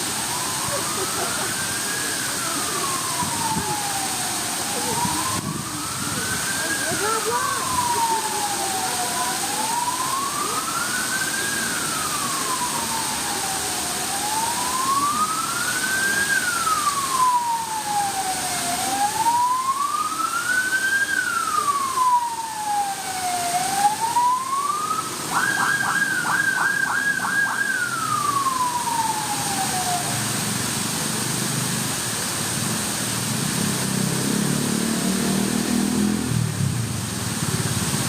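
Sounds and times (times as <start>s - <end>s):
emergency siren wailing: 0.0s - 37.9s.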